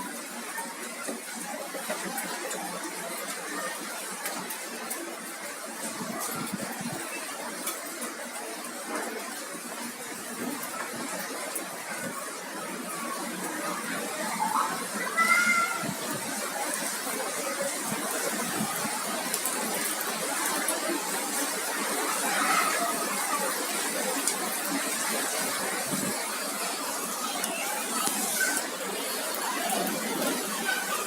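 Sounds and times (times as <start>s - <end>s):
heavy rain with hail: 0.0s - 31.0s.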